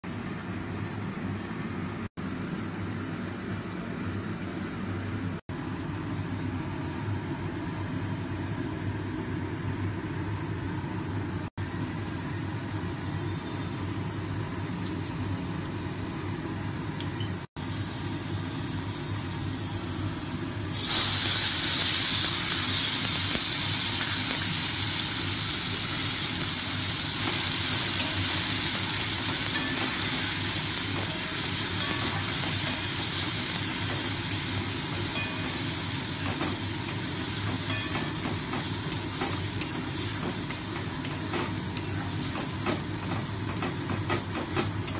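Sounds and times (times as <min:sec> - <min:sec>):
mango sizzling in hot oil: 0:05.6 - 0:44.9.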